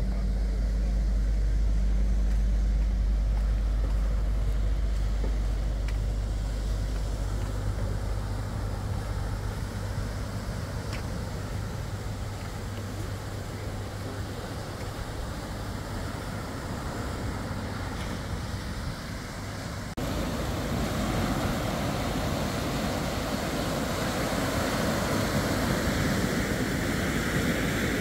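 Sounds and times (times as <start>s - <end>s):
small waves washing up shore: 4.4s - 28.0s.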